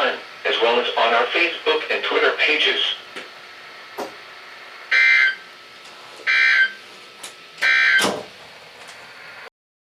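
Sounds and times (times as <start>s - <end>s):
radio hiss: 0.0s - 9.5s.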